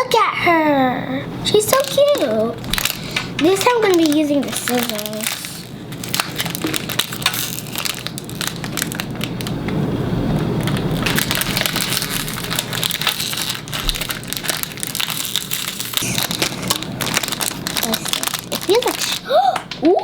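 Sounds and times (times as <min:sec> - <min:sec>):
plastic packaging crinkling: 0:01.6 - 0:19.8
scissors cutting plastic: 0:01.7 - 0:09.5, 0:10.6 - 0:19.9.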